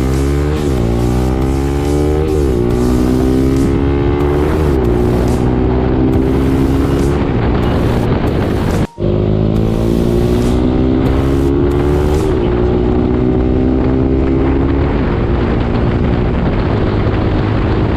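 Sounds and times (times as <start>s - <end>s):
motorcycle engine accelerating: 0.0s - 17.9s
wind rushing across microphone: 0.6s - 17.9s.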